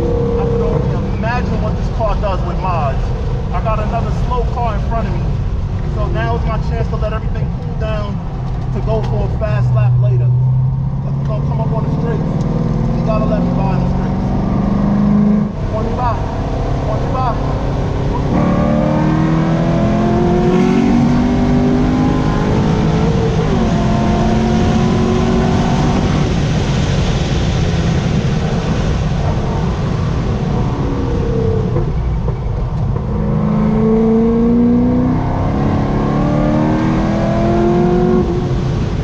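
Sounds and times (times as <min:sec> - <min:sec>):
car engine revving through gears: 0:00.0 - 0:02.4, 0:07.8 - 0:26.7, 0:28.0 - 0:39.0
wind and tyre noise: 0:00.0 - 0:39.0.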